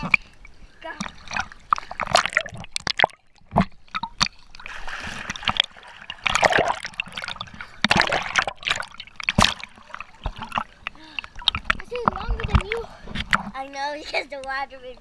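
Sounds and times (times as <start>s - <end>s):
pool water splashing and sloshing: 0.0s - 15.0s.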